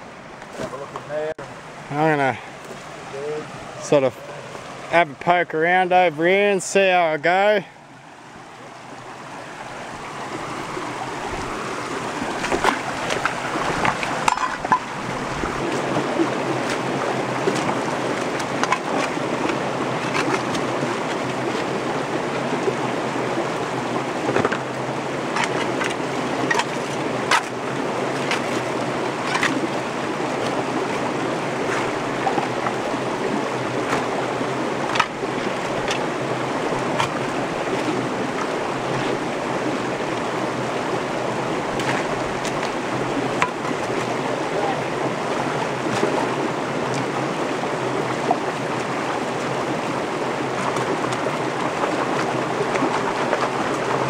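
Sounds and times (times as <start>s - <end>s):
creek rushing: 0.0s - 54.0s.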